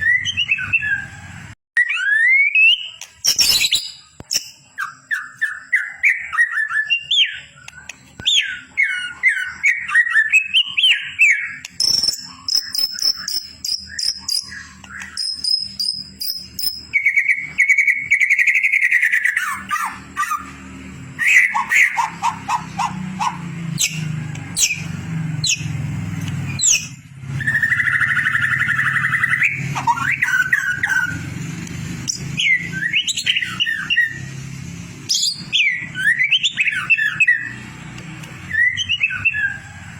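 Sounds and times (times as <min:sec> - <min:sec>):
bird singing whistled phrases: 0:01.8 - 0:20.6, 0:21.2 - 0:24.0, 0:26.5 - 0:31.3, 0:32.1 - 0:34.3, 0:35.1 - 0:37.6, 0:38.5 - 0:39.6.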